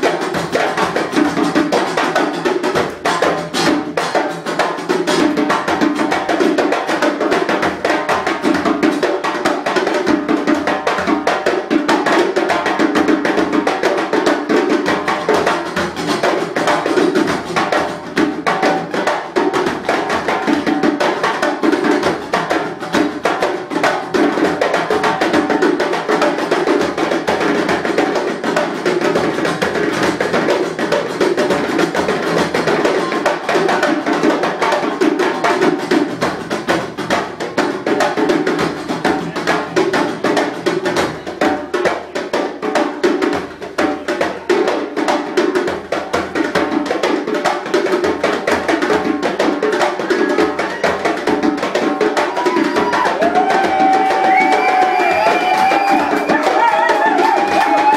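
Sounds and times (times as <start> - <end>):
djembes hand-drummed: 0.0 - 57.9.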